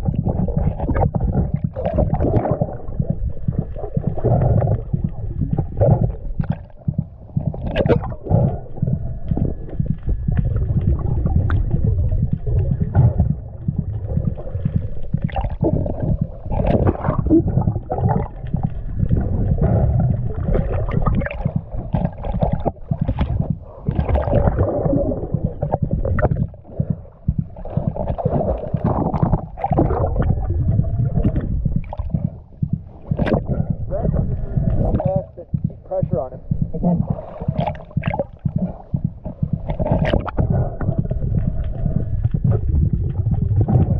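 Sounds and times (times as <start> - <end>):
water splashing: 0.0 - 35.7
muffled underwater churning: 0.0 - 43.9.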